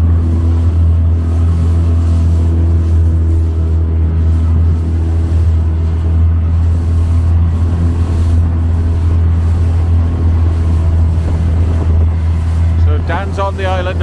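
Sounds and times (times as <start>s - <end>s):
motorboat engine droning: 0.0s - 14.0s.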